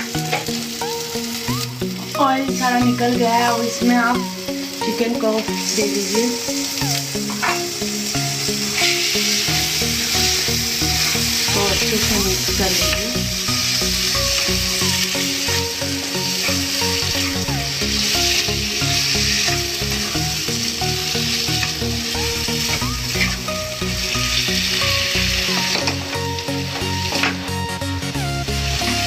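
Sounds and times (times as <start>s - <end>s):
chicken sizzling in hot oil: 0.0s - 29.0s
soft background music: 0.0s - 29.0s.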